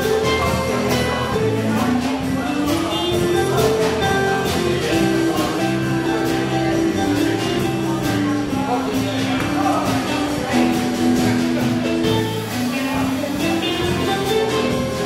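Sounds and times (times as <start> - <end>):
bass guitar: 0.0 - 15.0
drum kit hits: 0.0 - 15.0
electric guitars: 0.0 - 15.0.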